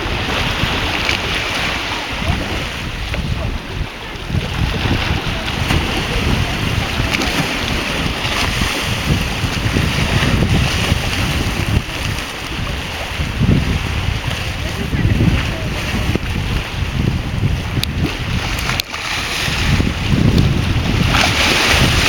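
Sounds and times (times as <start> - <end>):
small waves splashing on shore: 0.0 - 22.0
wind gusting on microphone: 0.0 - 22.0.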